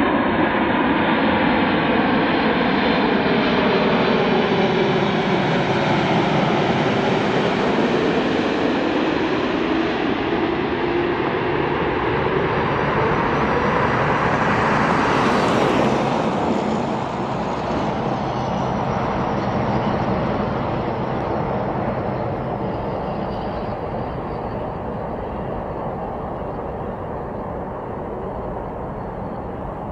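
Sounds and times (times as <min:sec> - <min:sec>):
jet engines at high power: 0:00.0 - 0:29.9.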